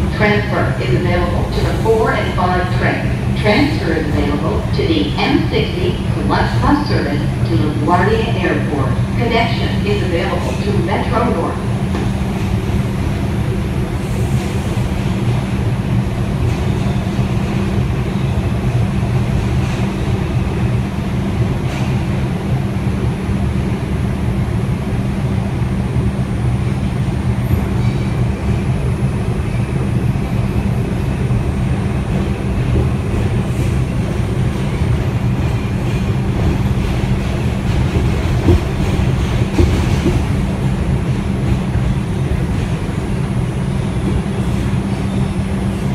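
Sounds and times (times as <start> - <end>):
subway wheels rumbling on rails: 0.0 - 45.9.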